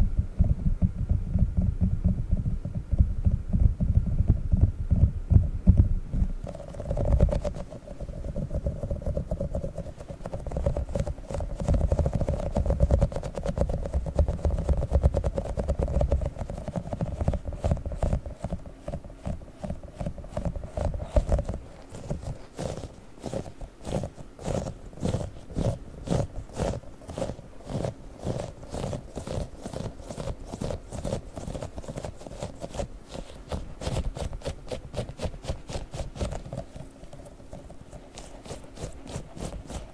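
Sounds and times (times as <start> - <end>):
sticky toy taps and peels: 5.7 - 39.9
crisp sticky clicks: 6.4 - 39.9.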